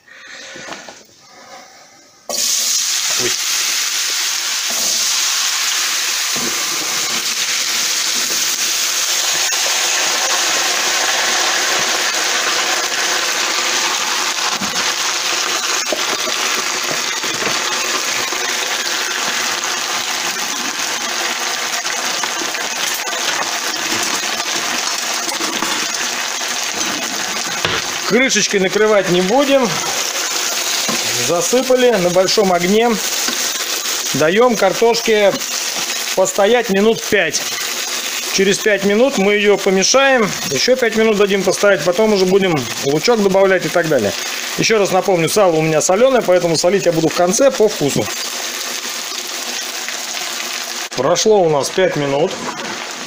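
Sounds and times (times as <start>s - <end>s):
potatoes sizzling in hot fat: 2.3s - 53.0s.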